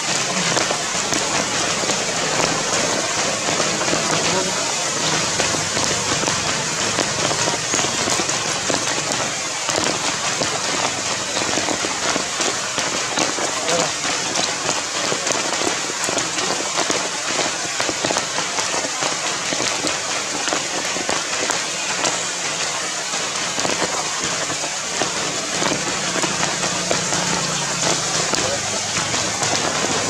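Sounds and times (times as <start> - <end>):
rain falling on leaves: 0.0 - 30.0.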